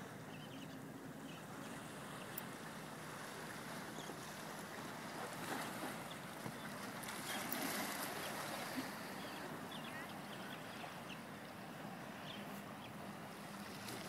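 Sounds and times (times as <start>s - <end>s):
small waves lapping against rocks: 1.1s - 14.0s.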